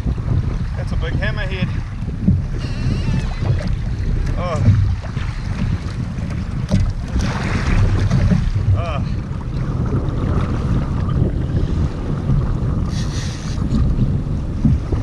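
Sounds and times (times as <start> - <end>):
waves washing around kayak: 0.0 - 15.0
wind buffeting microphone: 0.0 - 15.0.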